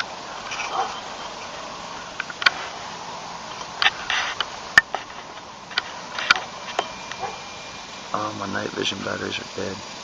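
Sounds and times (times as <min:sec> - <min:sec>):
low hiss: 0:00.0 - 0:10.0.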